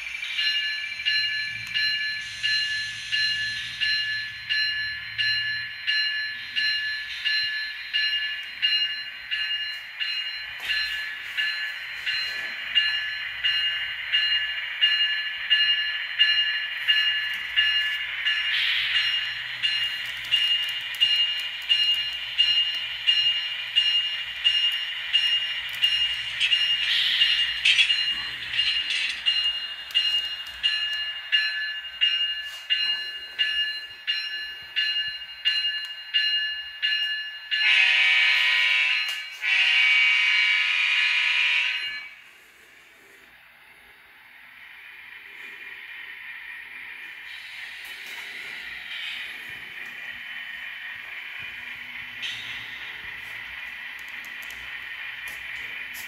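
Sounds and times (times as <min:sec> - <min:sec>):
locomotive bell ringing through speaker: 0:00.0 - 0:42.4, 0:46.7 - 0:56.0.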